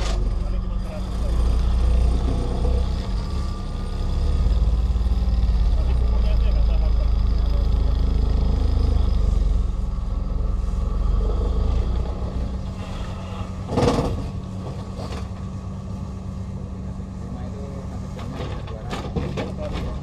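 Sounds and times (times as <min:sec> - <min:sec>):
excavator engine humming: 0:00.0 - 0:20.0
hydraulic ripper pulsing rumble: 0:00.0 - 0:20.0.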